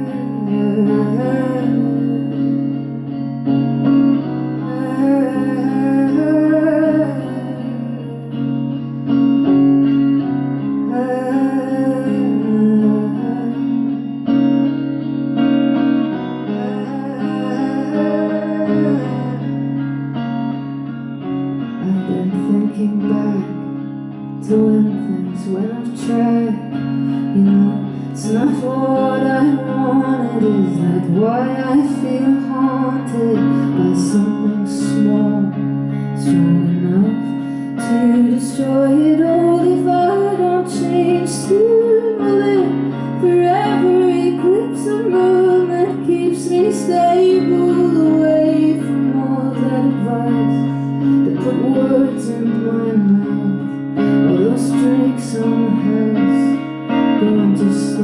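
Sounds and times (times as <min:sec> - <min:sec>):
woman singing: 0:00.0 - 0:03.2, 0:04.1 - 0:09.1, 0:10.8 - 0:14.8, 0:16.0 - 0:20.2, 0:21.7 - 0:58.0
guitar strumming: 0:00.0 - 0:58.0.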